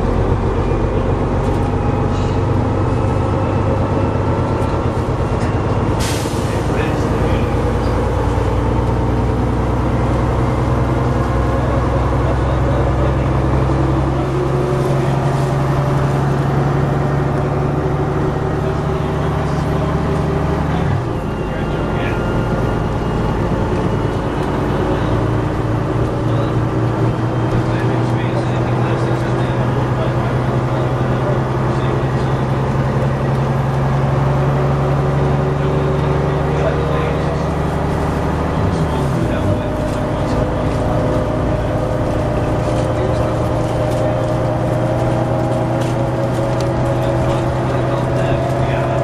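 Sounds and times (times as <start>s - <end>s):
bus diesel engine running: 0.0s - 49.0s.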